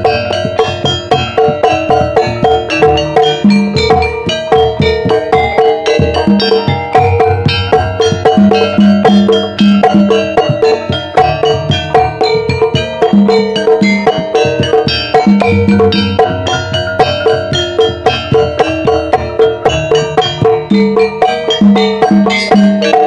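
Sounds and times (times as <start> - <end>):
low drum beats: 0.0 - 23.0
metallophones struck in fast pattern: 0.0 - 23.0.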